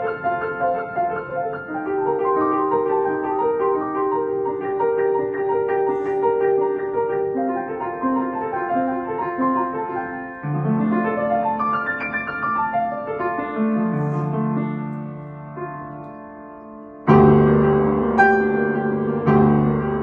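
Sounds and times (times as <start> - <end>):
solo piano playing: 0.0 - 20.0.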